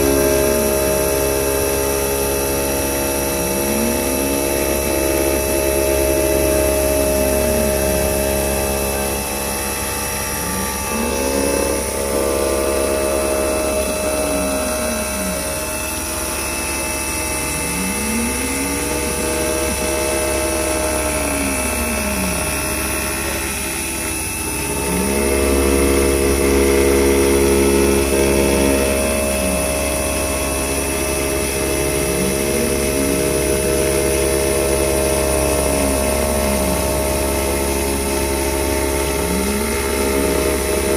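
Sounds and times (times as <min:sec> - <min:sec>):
milling machine whining: 0:00.0 - 0:40.9.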